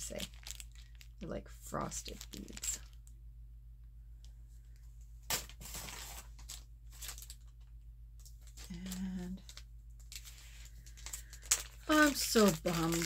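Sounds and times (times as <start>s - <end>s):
plastic bag crinkling: 0.0s - 3.1s, 5.3s - 13.0s.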